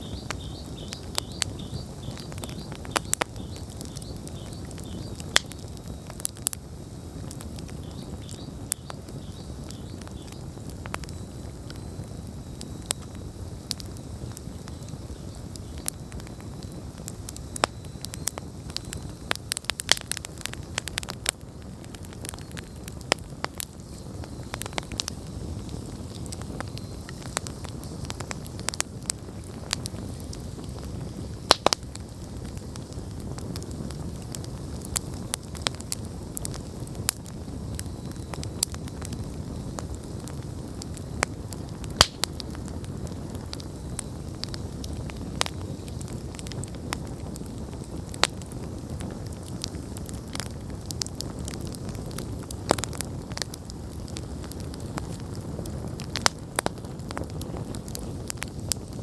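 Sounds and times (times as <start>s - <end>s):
campfire flames rushing: 0.0s - 59.0s
fire crackling and popping: 0.0s - 59.0s.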